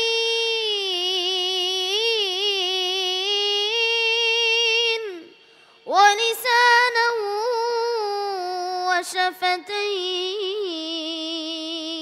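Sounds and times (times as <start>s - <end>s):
boy chanting melodically: 0.0s - 12.0s.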